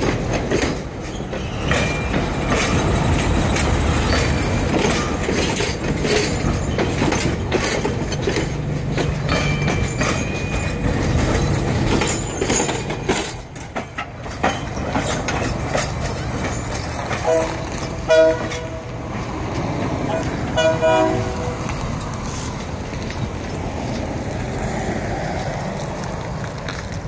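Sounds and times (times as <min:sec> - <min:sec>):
train wheels clacking over rail joints: 0:00.0 - 0:27.0.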